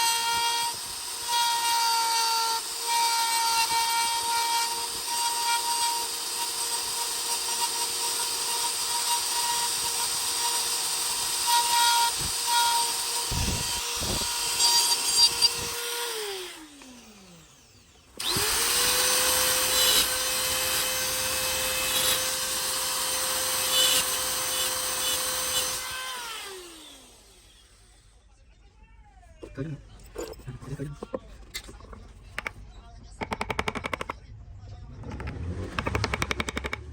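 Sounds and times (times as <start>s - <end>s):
power tool cutting wood: 0.0s - 28.0s, 35.1s - 36.9s.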